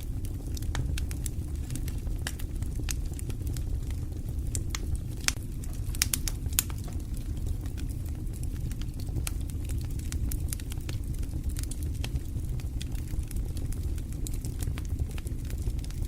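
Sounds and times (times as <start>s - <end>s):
fire crackles and pops: 0.0s - 16.0s
fire rumbling: 0.0s - 16.0s.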